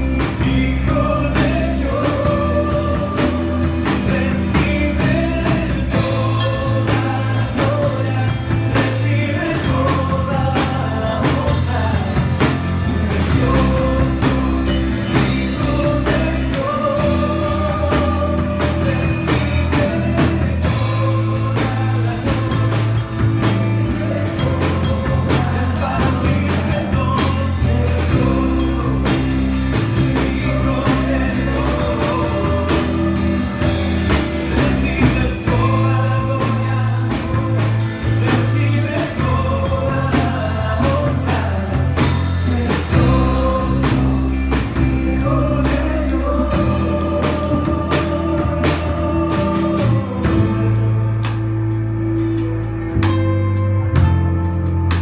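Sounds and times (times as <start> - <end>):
voices singing: 0.0 - 51.5
live worship band playing: 0.0 - 55.0.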